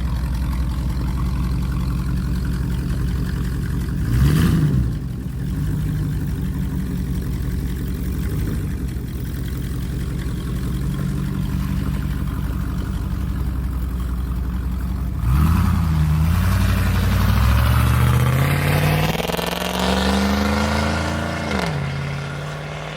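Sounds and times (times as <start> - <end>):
loud engine idling and revving: 0.0 - 22.9.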